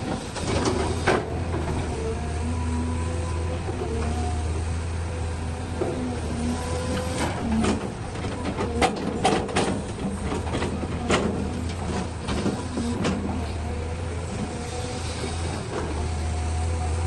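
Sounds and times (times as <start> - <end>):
diesel engines droning: 0.0 - 17.0.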